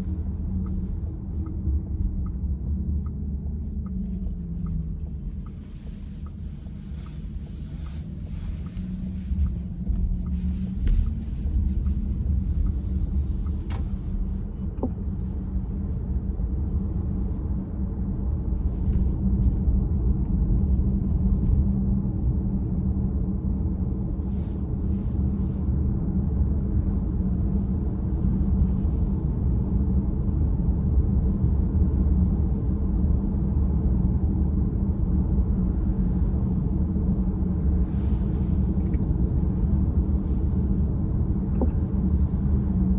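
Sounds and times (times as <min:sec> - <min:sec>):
car engine rumbling: 0:00.0 - 0:42.9.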